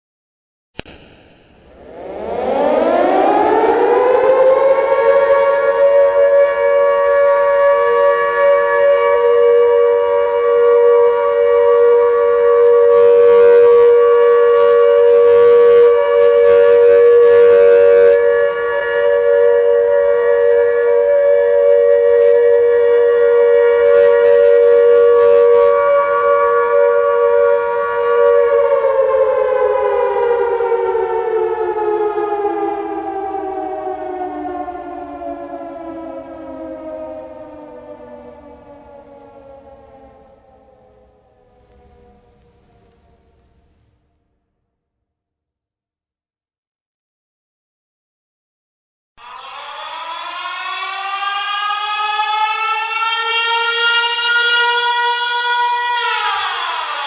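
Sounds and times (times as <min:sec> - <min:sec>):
air raid siren wailing: 0:01.4 - 0:44.3, 0:49.2 - 0:57.0.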